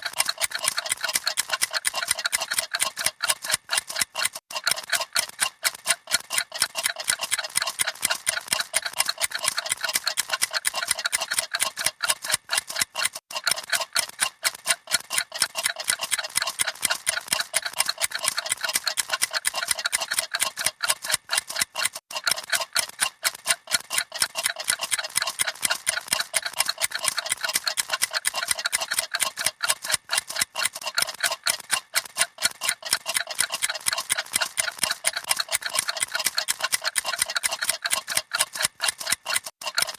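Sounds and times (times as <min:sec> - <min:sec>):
many clocks ticking: 0:00.0 - 0:39.9.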